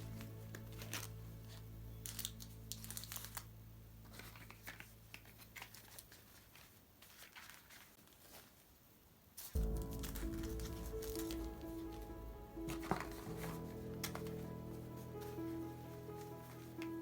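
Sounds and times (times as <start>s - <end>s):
soft background music: 0.0s - 6.2s, 9.6s - 17.0s
paper crinkling and tearing: 0.0s - 17.0s.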